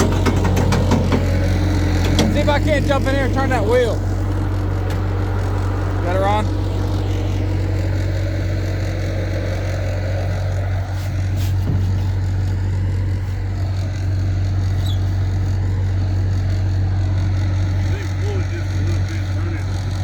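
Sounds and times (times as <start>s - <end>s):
vehicle engine droning: 0.0s - 20.0s.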